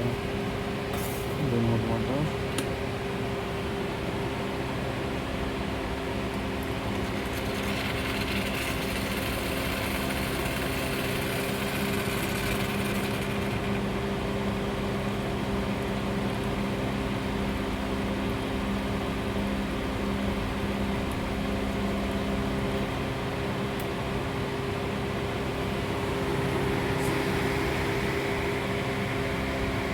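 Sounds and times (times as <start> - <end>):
espresso machine pump humming: 5.6 - 29.9.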